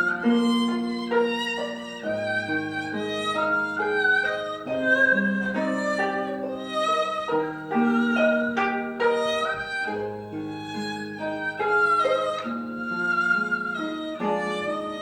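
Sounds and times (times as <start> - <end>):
bowed fiddle melody: 0.0 - 15.0
plucked zither accompaniment: 0.0 - 15.0.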